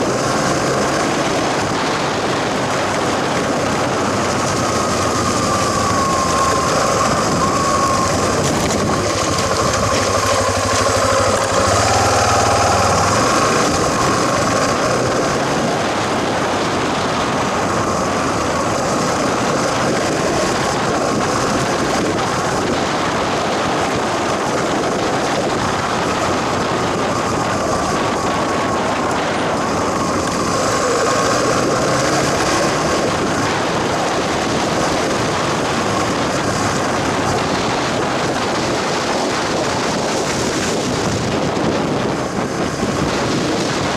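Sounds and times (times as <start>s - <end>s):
tyres rolling over gravel: 0.0s - 43.9s
vehicle engine and road noise: 0.0s - 43.9s.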